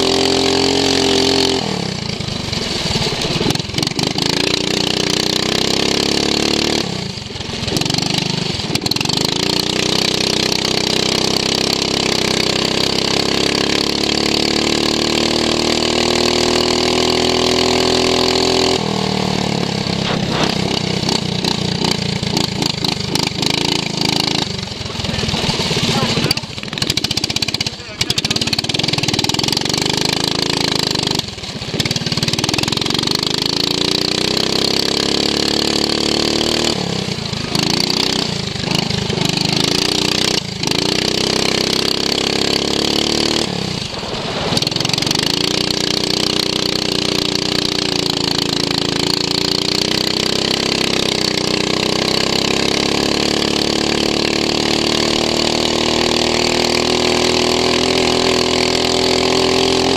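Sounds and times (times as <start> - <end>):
lawn mower engine revving: 0.0 - 59.9.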